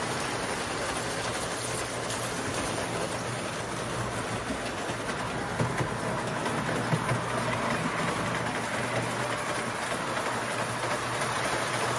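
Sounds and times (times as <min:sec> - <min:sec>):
toy train wheels rattling on track: 0:00.0 - 0:11.9.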